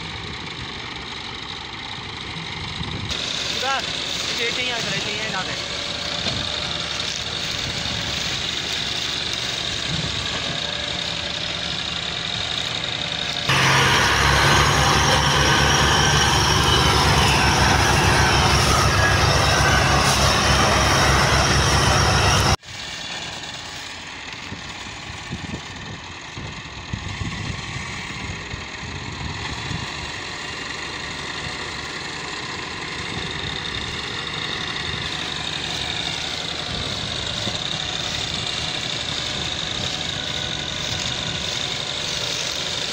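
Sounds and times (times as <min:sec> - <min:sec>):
tractor diesel engine under load: 0:00.0 - 0:42.9
two tractors pulling: 0:00.0 - 0:42.9.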